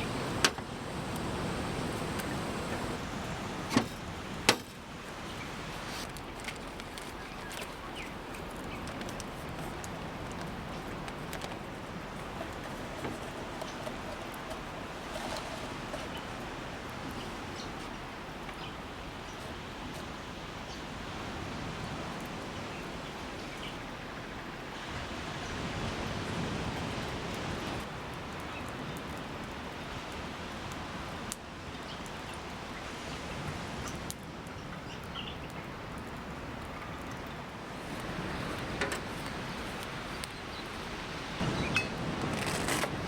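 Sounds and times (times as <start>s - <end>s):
ocean surf on beach: 0.0s - 34.8s, 35.8s - 43.0s
campfire crackling: 0.0s - 43.0s.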